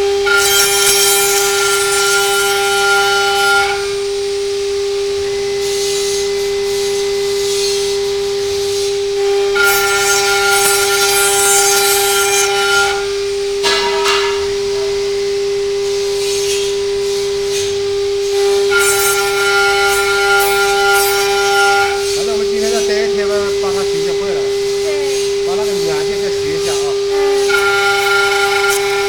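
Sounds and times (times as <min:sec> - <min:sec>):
bit cutting wood hissing: 0:00.0 - 0:04.2, 0:05.7 - 0:29.0
router spindle whining: 0:00.0 - 0:29.0.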